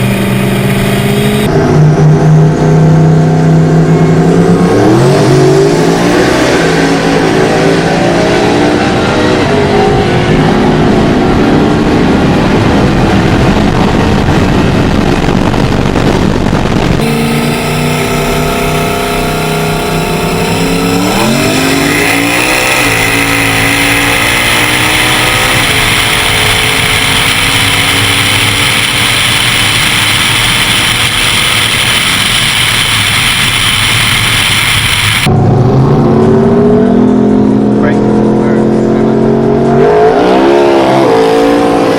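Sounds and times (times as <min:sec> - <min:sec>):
race car engine accelerating: 0:00.0 - 0:41.9.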